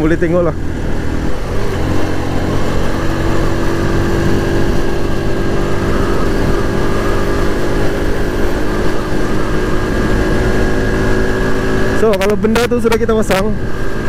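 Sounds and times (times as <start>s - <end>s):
road noise: 0.0s - 14.0s
scooter engine running: 0.0s - 14.0s
wind noise: 0.0s - 14.0s.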